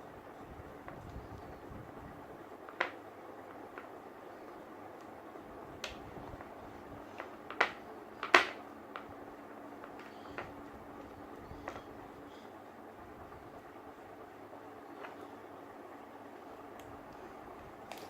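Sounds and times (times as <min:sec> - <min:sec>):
faint room hiss: 0:00.0 - 0:18.0.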